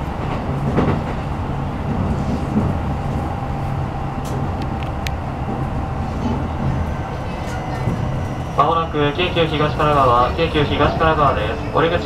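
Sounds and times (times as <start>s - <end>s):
train running low rumble: 0.0s - 12.0s.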